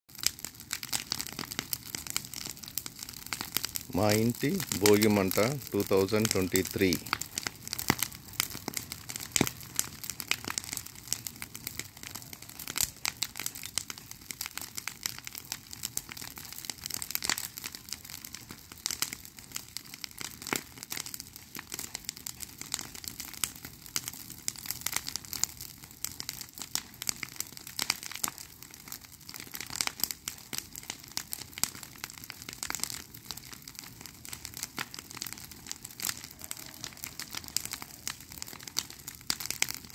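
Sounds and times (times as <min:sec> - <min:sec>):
bonfire crackling and popping: 0:00.1 - 0:39.9.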